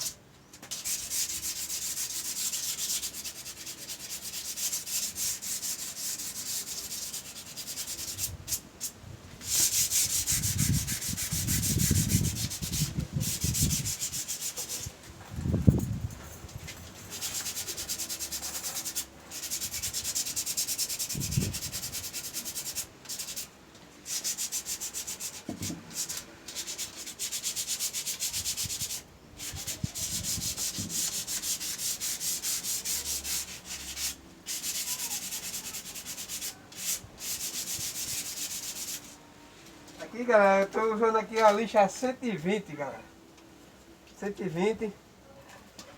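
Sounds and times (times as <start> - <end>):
sandpaper scratching on wood: 0.0 - 15.0, 17.1 - 39.2.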